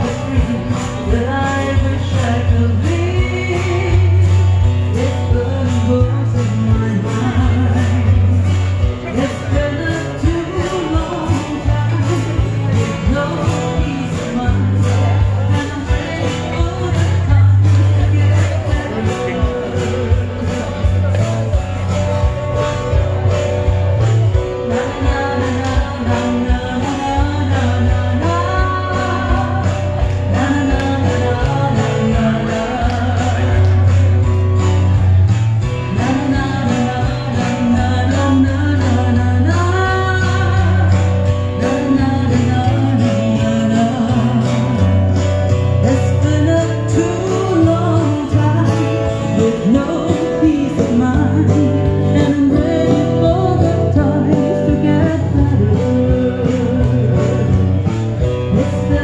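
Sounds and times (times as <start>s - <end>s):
woman singing: 0.0s - 21.6s, 23.6s - 35.0s, 35.6s - 59.0s
electro-acoustic guitar: 0.0s - 59.0s.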